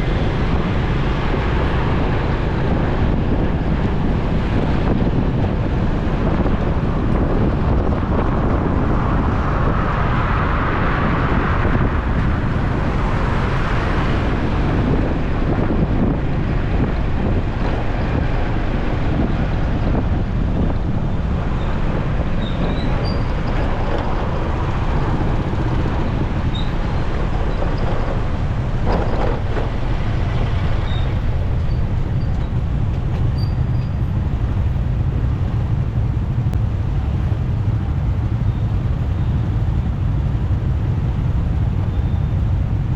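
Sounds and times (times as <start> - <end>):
traffic engines: 0.0 - 42.9
wind rumble on microphone: 0.0 - 42.9.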